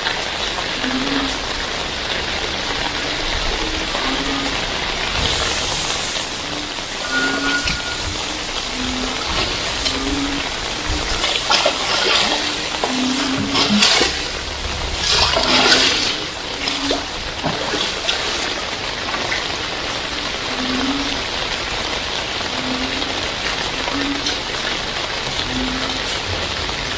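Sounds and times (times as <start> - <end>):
heavy rain falling: 0.0 - 26.9
rushing splashing water: 0.0 - 26.9.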